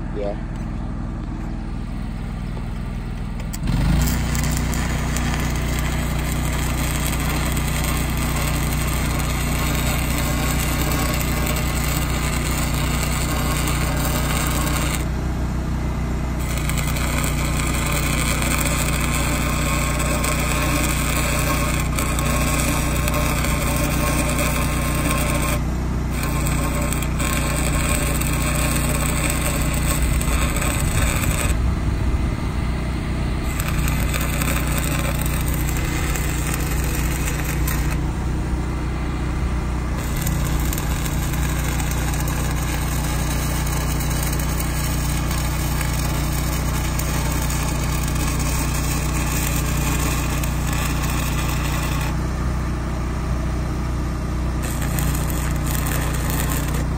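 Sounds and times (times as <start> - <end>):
engine running: 0.0 - 56.9
welding arc crackling hiss: 3.4 - 15.1, 16.4 - 31.6, 32.7 - 38.2, 39.9 - 52.2, 54.6 - 56.9.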